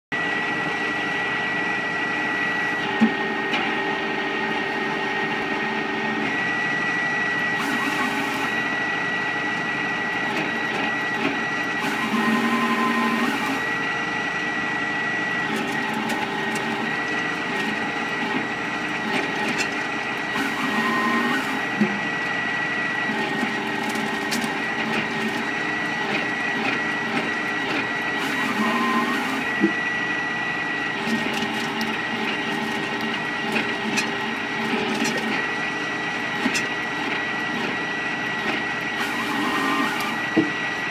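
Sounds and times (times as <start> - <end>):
wood chipper running: 0.1 - 40.9.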